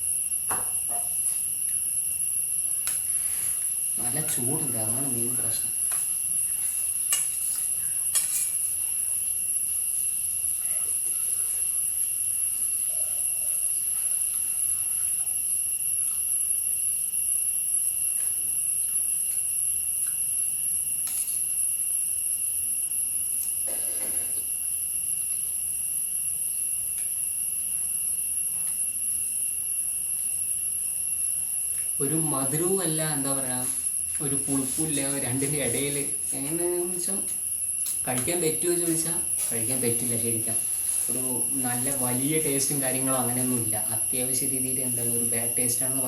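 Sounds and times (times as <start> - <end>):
high-pitched insect drone: 0.0 - 46.0.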